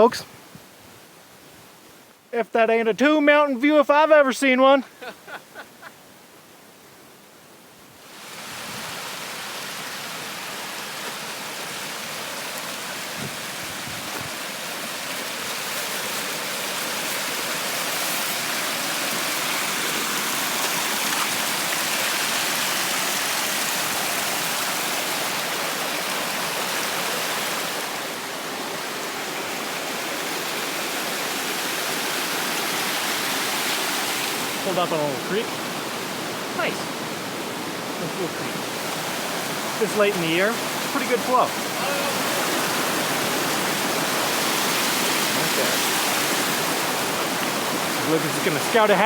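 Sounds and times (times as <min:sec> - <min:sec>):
creek water rushing: 0:01.0 - 0:49.0.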